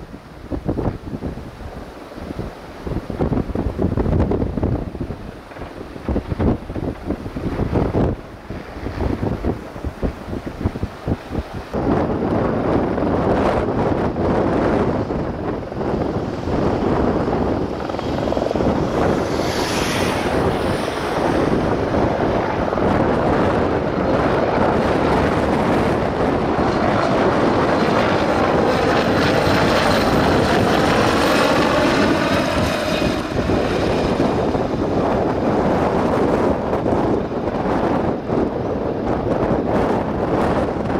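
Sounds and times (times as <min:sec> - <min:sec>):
wind buffeting microphone: 0:00.0 - 0:40.9
helicopter flying past: 0:01.6 - 0:40.9.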